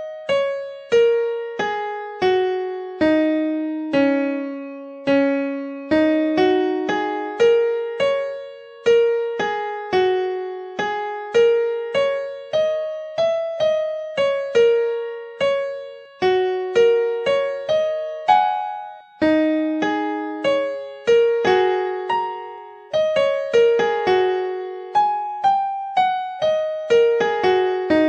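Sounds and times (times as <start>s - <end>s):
electric piano melody: 0.0s - 28.0s.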